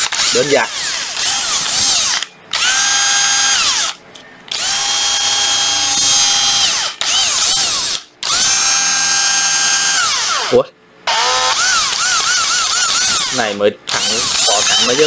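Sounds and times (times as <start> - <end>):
cordless drill motor whining: 0.0 - 15.0.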